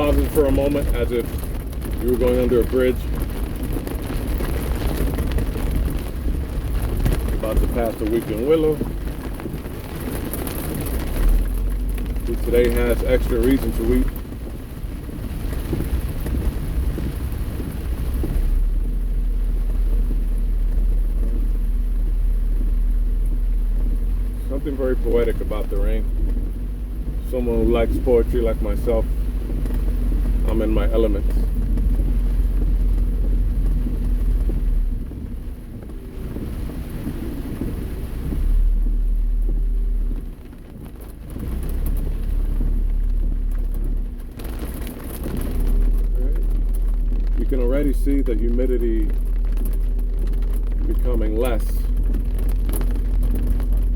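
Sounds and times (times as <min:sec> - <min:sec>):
low road rumble: 0:00.0 - 0:53.9
rain drumming on car roof: 0:00.0 - 0:53.9.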